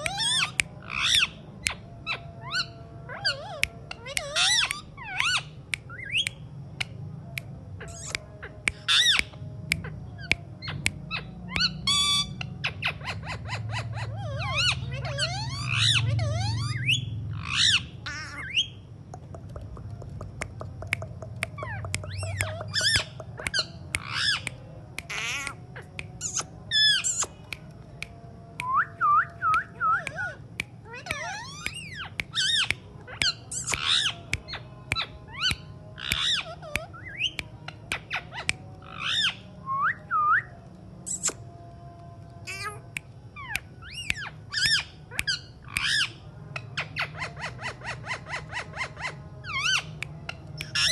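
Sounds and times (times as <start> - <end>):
parrot squawks and whistles: 0.0 - 6.4, 7.8 - 18.8, 21.6 - 24.5, 25.1 - 27.4, 28.7 - 40.5, 41.1 - 41.4, 43.4 - 49.9, 50.6 - 50.9.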